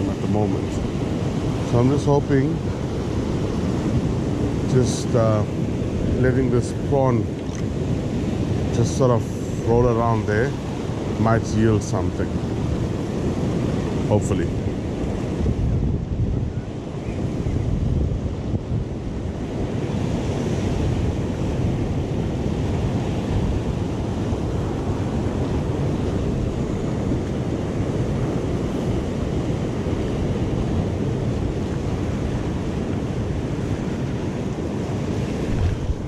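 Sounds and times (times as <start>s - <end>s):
surf washing over rocks: 0.0s - 36.0s
wind buffeting microphone: 0.0s - 36.0s.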